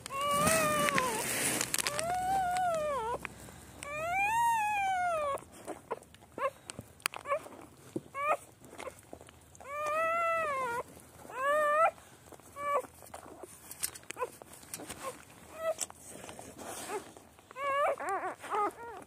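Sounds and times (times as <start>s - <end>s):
newborn puppies whining: 0.0s - 19.0s.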